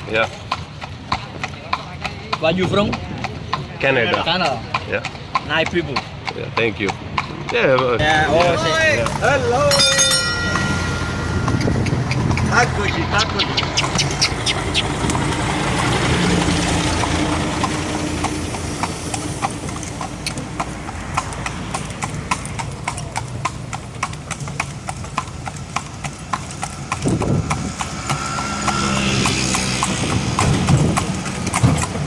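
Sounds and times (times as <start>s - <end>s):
cart rumbling: 0.0s - 32.0s
horse hooves clip-clopping: 0.0s - 32.0s.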